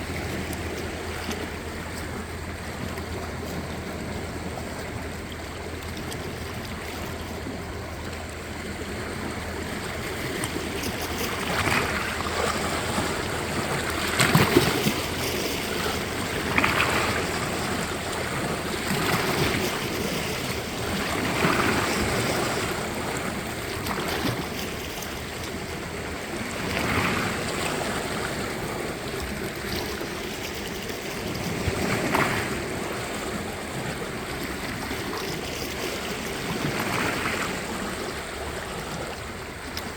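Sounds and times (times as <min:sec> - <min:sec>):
small waves breaking on shore: 0:00.0 - 0:39.9
surf hiss: 0:00.0 - 0:39.9.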